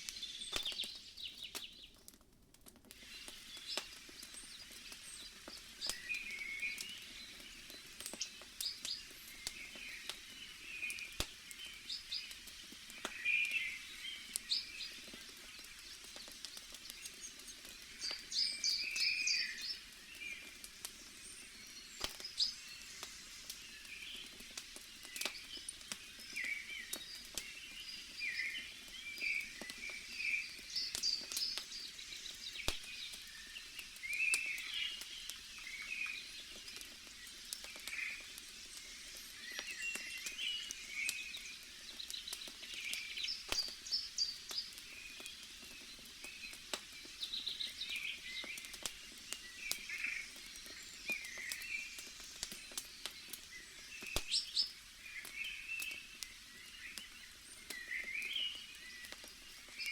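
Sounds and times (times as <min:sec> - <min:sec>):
small birds chirping: 0:00.0 - 0:02.2, 0:02.8 - 0:59.9
wood fire crackling and popping: 0:00.0 - 0:59.9.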